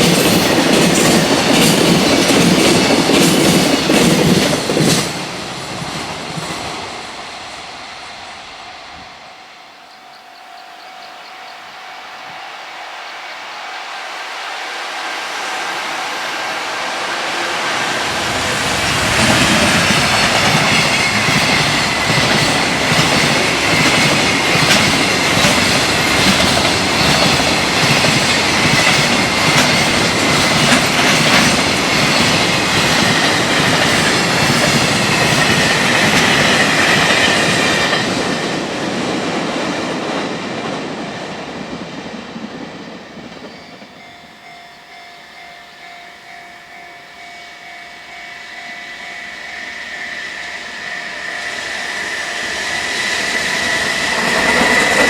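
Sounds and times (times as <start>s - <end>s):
train wheels clattering: 0.0s - 9.2s, 14.6s - 45.8s, 46.7s - 55.0s
high train whine: 0.0s - 55.0s.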